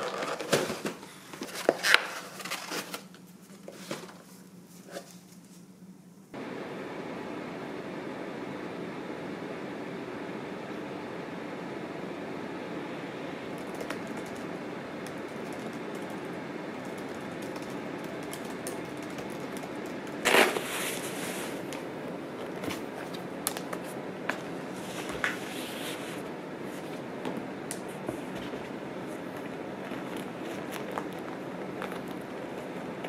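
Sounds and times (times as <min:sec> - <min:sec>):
steady room hum: 0:00.0 - 0:33.0.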